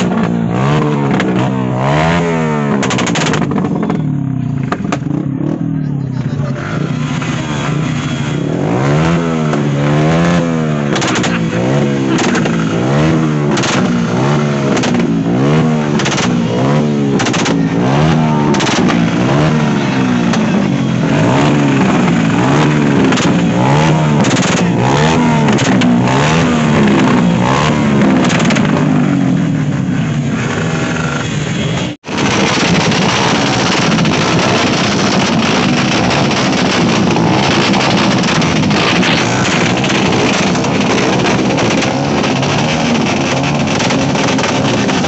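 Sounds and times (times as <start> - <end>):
exhaust pops: 0.0 - 45.0
motorcycle engine revving: 0.0 - 45.0.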